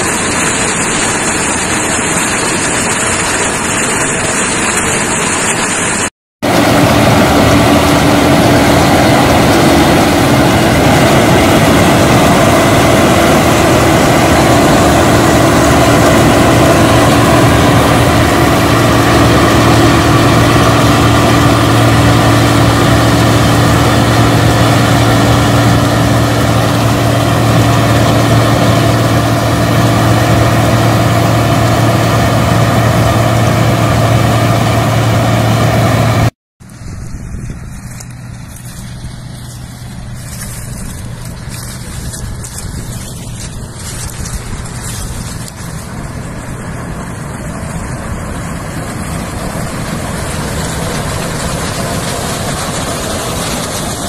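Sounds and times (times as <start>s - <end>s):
combine harvester running: 0.0s - 54.0s
quieter machine sound: 0.0s - 54.0s.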